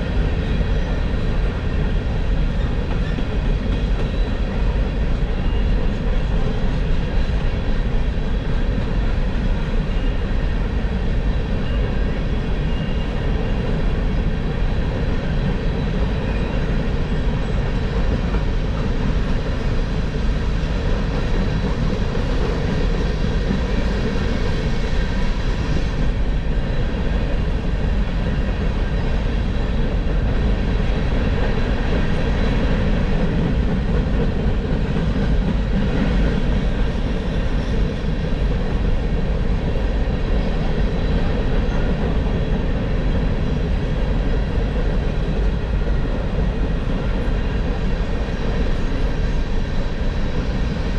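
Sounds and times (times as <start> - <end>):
freight train rolling past: 0.0 - 50.9.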